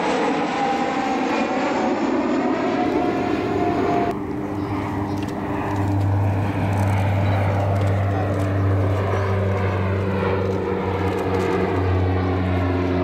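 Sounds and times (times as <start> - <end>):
jet rush with whine: 0.0 - 13.0
turboprop drone: 0.0 - 13.0.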